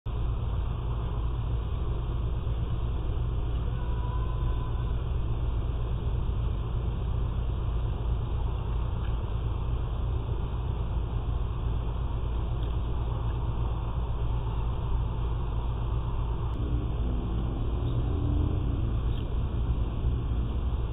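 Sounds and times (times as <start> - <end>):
low rumble with hiss: 0.1 - 20.9.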